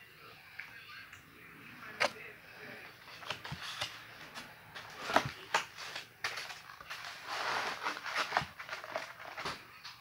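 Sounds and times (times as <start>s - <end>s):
paper plates rustling: 1.8s - 10.0s.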